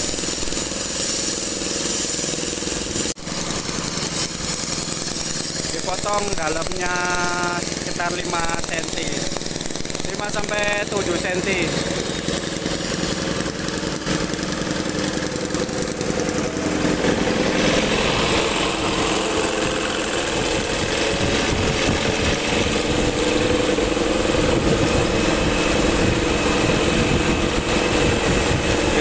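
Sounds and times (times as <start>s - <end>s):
construction machinery engine running: 0.0s - 29.0s.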